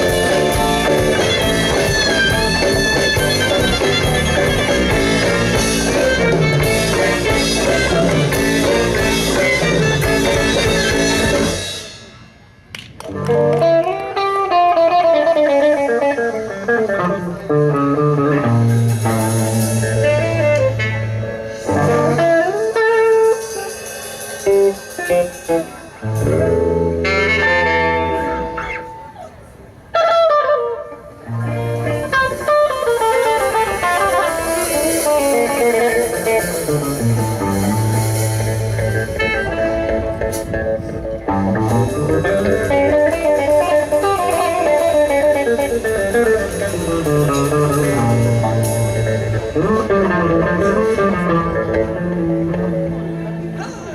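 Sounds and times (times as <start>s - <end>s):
lead melody: 0.0s - 12.1s, 13.0s - 53.9s
bass: 0.0s - 53.9s
guitar: 0.0s - 53.9s.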